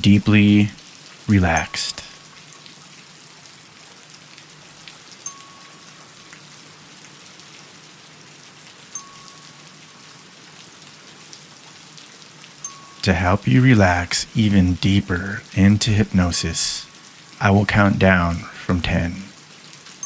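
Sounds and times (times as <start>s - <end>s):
soft hiss of running water: 0.0s - 20.0s.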